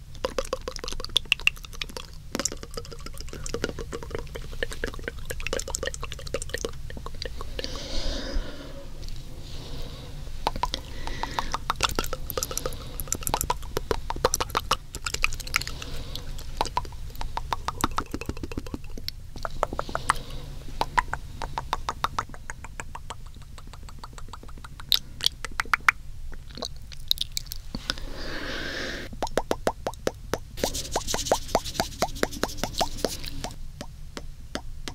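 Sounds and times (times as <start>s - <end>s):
tongue clicks and lip smacks: 0.0s - 7.8s, 10.4s - 28.0s, 29.1s - 34.9s.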